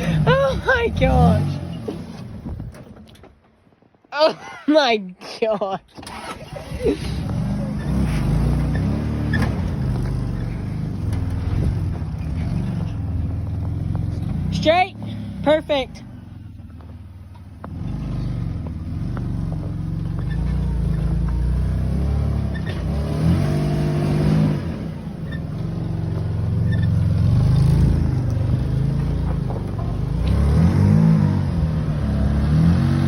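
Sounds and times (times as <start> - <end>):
off-road vehicle engine revving: 0.0 - 2.8, 6.0 - 33.0.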